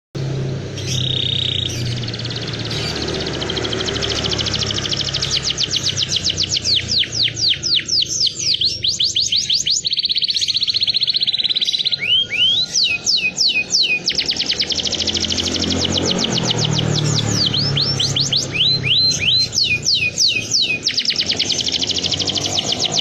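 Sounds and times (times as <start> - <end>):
canary singing: 0.2 - 23.0.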